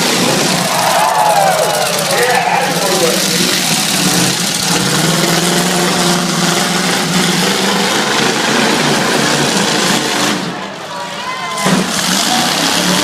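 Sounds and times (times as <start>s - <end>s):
truck engines running loudly: 0.0s - 13.0s.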